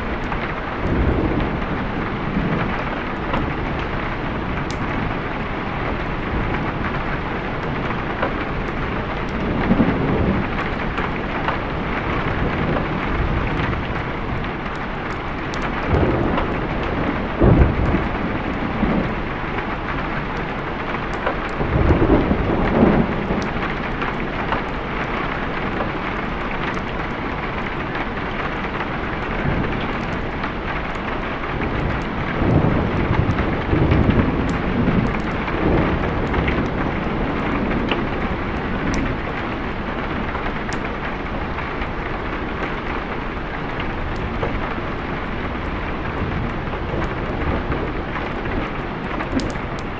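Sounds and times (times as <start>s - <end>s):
heavy rain: 0.0s - 49.9s
thunder rumbling: 0.0s - 49.9s.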